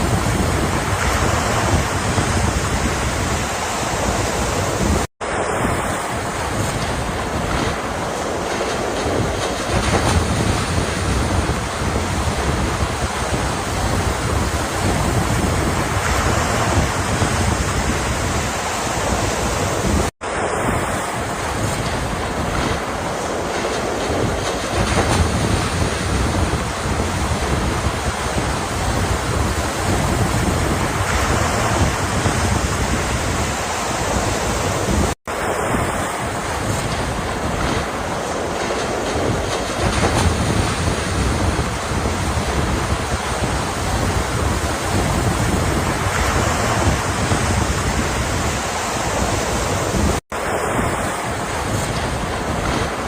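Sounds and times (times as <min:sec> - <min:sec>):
ocean surf breaking: 0:00.0 - 0:53.0
wind buffeting microphone: 0:00.0 - 0:53.0.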